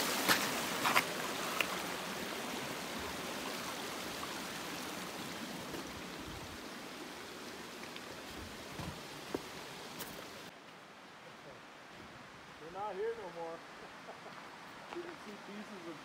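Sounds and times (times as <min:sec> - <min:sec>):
running water hiss: 0:00.0 - 0:16.0.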